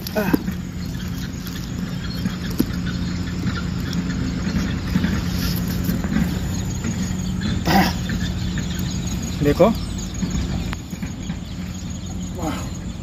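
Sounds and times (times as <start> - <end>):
engine hum with low rumble: 0.0 - 13.0.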